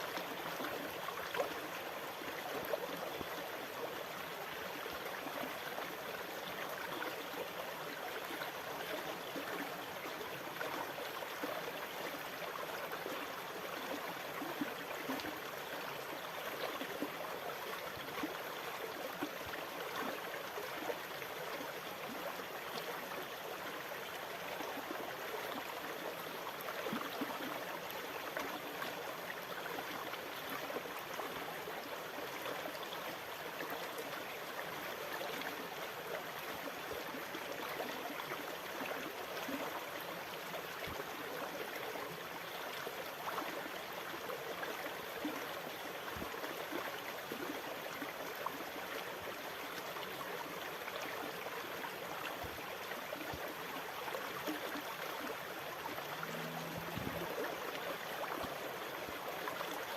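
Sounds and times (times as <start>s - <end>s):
water rushing and trickling: 0.0s - 59.9s.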